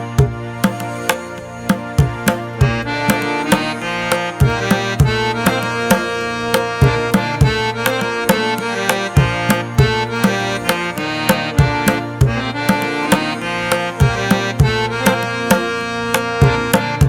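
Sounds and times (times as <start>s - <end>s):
music with steady drum beat: 0.0s - 17.0s.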